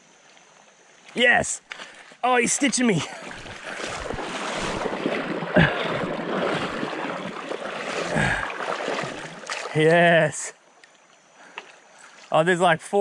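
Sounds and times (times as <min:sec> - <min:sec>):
water rushing in a creek: 0:00.2 - 0:13.0.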